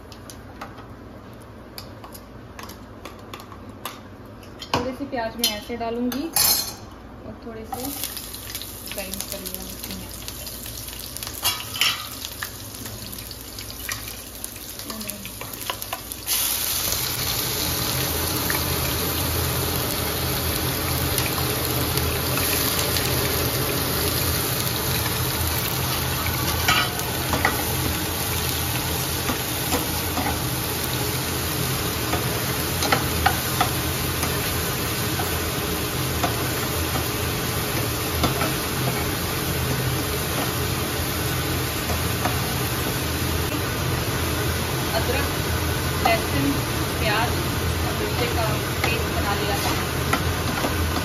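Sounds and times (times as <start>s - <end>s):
onions sizzling in oil: 7.6s - 51.0s.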